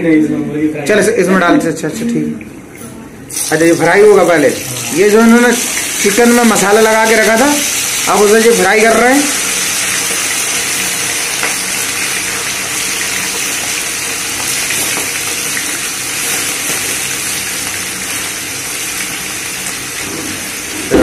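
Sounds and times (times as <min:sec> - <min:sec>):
chicken sizzling in hot oil: 0:03.3 - 0:21.0.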